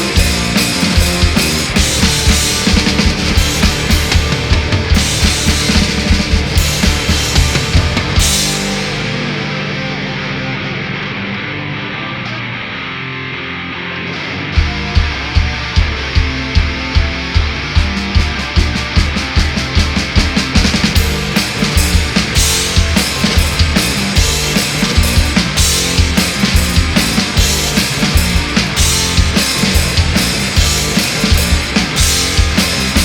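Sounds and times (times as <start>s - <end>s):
instrumental punk rock: 0.0s - 33.0s.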